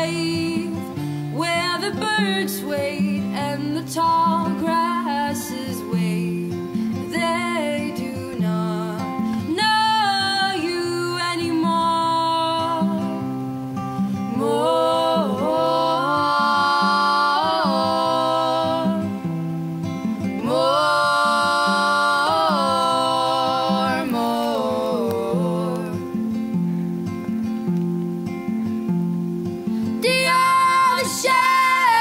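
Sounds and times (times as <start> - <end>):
wordless harmonised singing: 0.0 - 13.2, 14.0 - 26.5, 30.0 - 32.0
acoustic guitar: 0.0 - 32.0.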